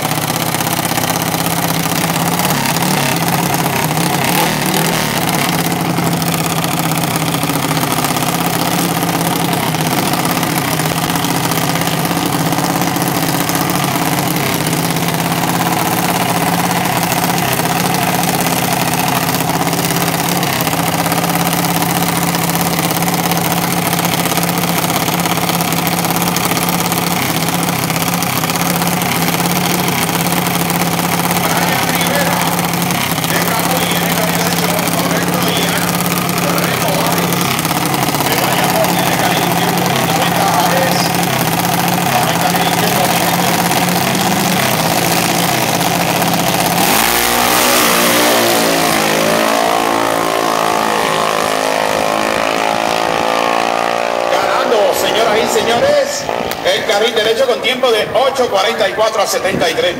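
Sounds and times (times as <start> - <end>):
dragster engine idling: 0.0 - 59.9.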